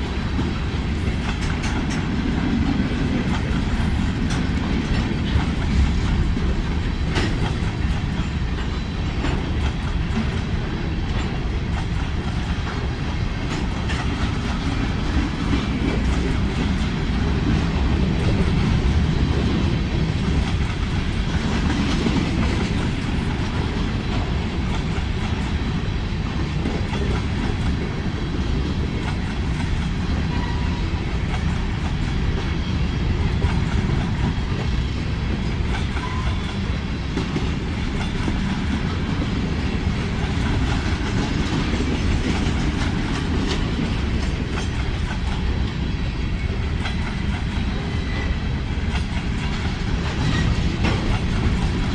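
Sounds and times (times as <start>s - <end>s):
train rumble: 0.0s - 51.9s
train wheels clacking on rail joints: 0.0s - 51.9s.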